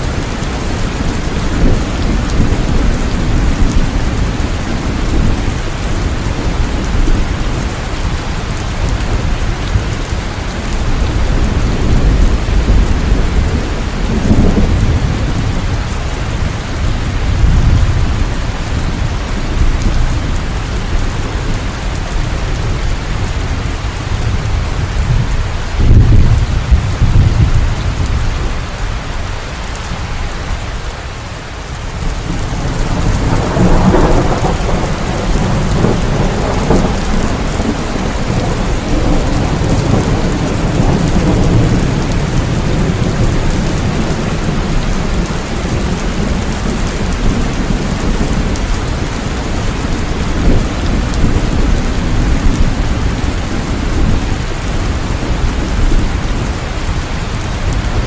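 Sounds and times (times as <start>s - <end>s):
rolling thunder: 0.0s - 28.8s, 32.0s - 58.0s
heavy rain: 0.0s - 58.0s.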